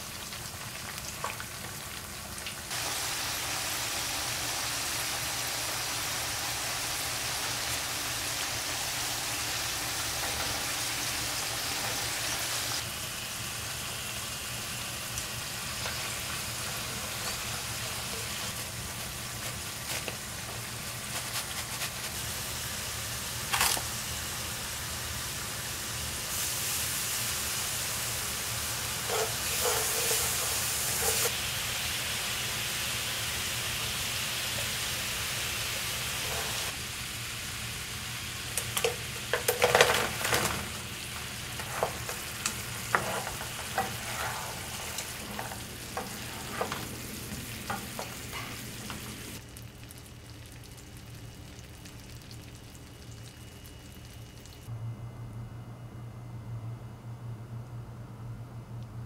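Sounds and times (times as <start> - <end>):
sweet potato sizzling in oil: 0.0 - 54.6
sugar syrup sizzling and bubbling: 0.0 - 54.7.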